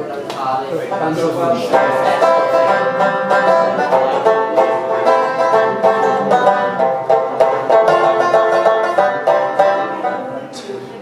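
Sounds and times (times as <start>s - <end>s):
banjo picking: 0.8s - 11.0s.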